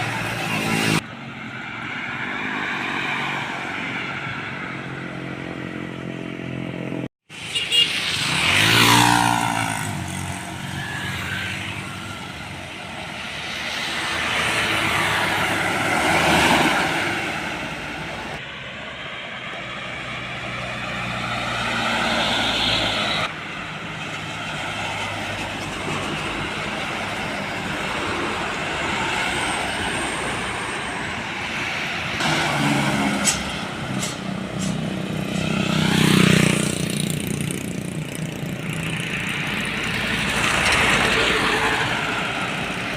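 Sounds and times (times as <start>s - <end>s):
heavy trucks passing: 0.0s - 42.9s.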